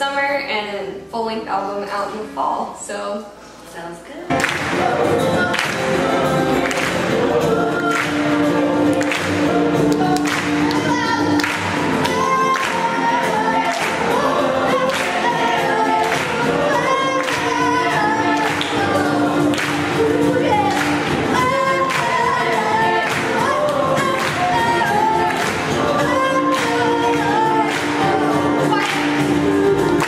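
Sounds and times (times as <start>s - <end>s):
acoustic guitar: 3.4s - 30.0s
upright bass: 4.3s - 30.0s
woman singing: 4.4s - 30.0s.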